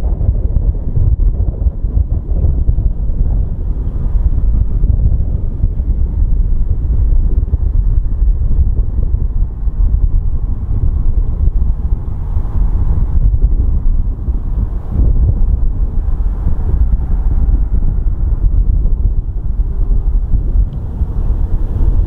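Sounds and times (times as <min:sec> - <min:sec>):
jet engines rumbling at takeoff: 0:00.0 - 0:22.0.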